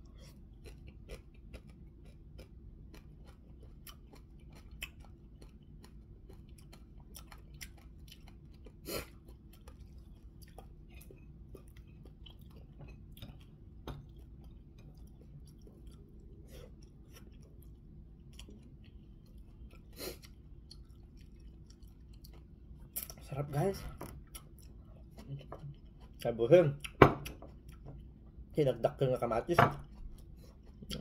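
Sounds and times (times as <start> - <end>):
person chewing food: 0.0 - 28.6, 29.7 - 31.0
steady low hum: 0.0 - 31.0.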